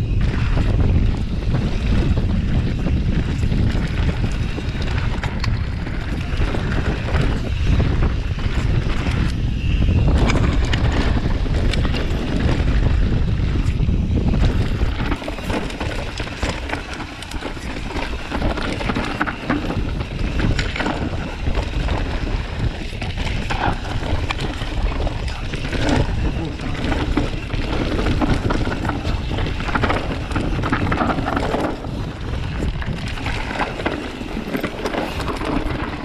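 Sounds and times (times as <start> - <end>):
bike rattling over bumps: 0.0 - 36.0
tyres rumbling on dirt and stones: 0.0 - 36.0
wind buffeting microphone: 0.0 - 36.0.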